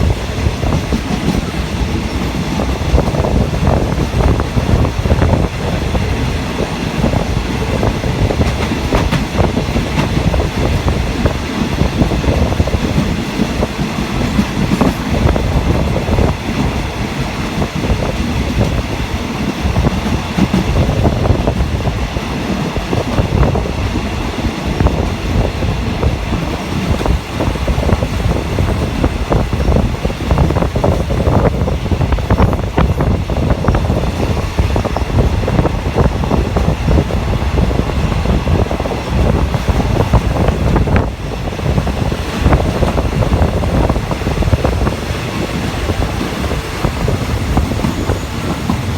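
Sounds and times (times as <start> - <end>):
train carriage rumble: 0.0 - 48.9
wheels clacking over rail joints: 0.0 - 48.9.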